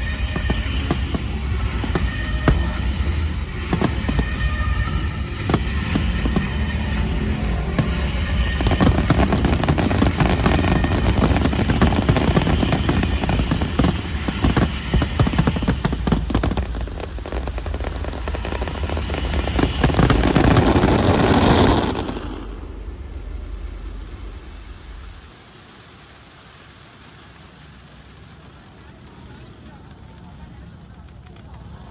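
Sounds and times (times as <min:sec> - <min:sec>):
fireworks bangs and crackling: 0:00.0 - 0:31.9.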